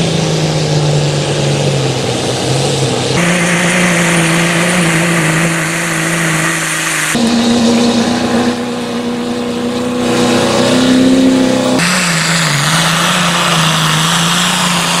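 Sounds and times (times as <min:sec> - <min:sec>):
vehicle engine running hard: 0:00.0 - 0:15.0.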